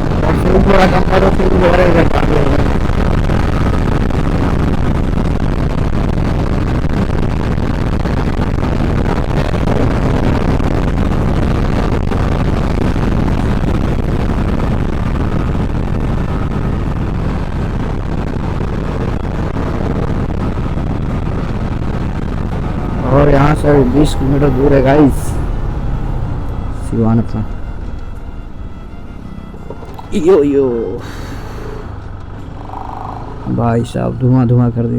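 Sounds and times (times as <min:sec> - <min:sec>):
wind on microphone: 0:00.0 - 0:30.4
motorcycle engine running: 0:00.0 - 0:34.7.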